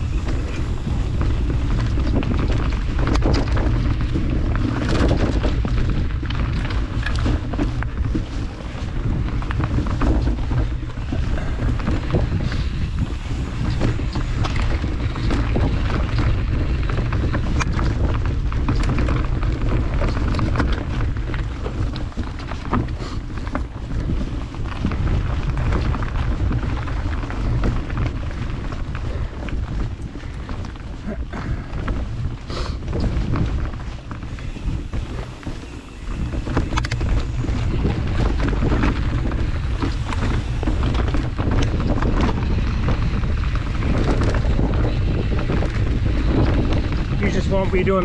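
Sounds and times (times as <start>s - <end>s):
bike rattling clicks and knocks: 0.0s - 48.0s
low rumble of bike riding: 0.0s - 48.0s
wind on microphone: 0.0s - 48.0s.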